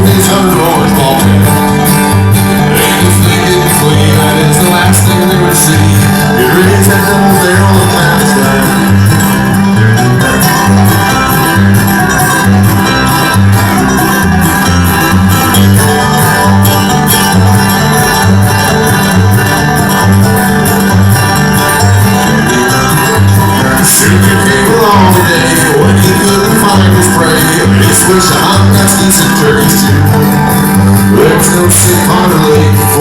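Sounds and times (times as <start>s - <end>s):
bass beat: 0.0s - 33.0s
bluegrass band playing: 0.0s - 33.0s
fiddle: 0.0s - 33.0s
plucked strings: 0.0s - 33.0s.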